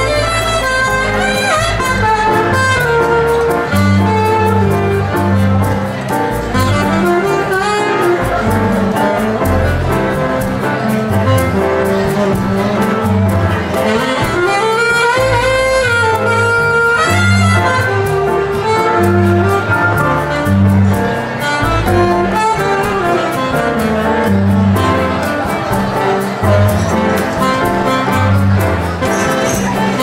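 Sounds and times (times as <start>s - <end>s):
congas and shaker: 0.0s - 30.0s
saxophone melody: 0.0s - 30.0s
walking double bass: 0.0s - 30.0s.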